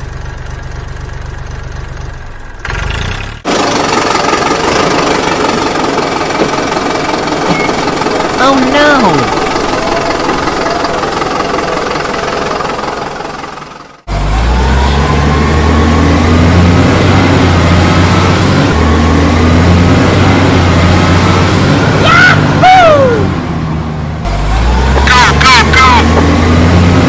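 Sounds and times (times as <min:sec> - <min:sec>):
heavy truck engine running: 0:00.0 - 0:27.0.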